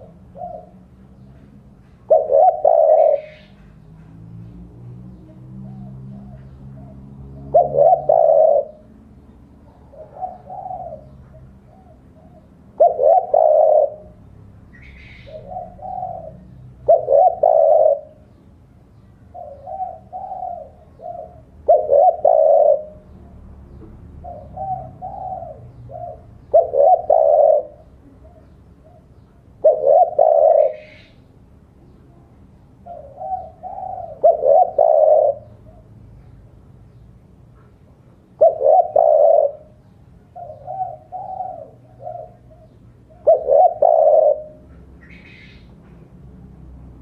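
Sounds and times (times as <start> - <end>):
dove cooing: 0.0 - 4.0, 5.1 - 18.4, 19.3 - 23.4, 24.2 - 31.3, 32.8 - 36.3, 37.5 - 45.8.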